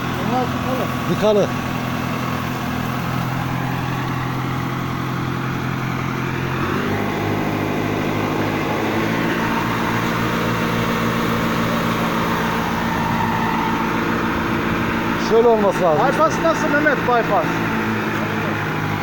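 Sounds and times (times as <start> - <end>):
fire truck engine running pump: 0.0 - 19.0.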